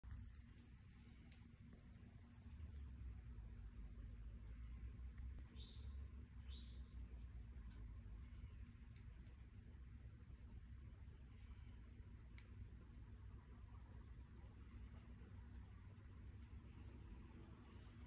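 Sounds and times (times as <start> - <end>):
faint low rumble: 0.0 - 18.0
insect drone: 0.0 - 18.0.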